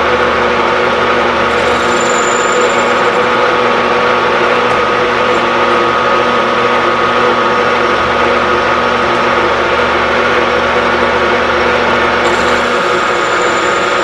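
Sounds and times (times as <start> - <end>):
metal lathe whining: 0.0 - 14.0.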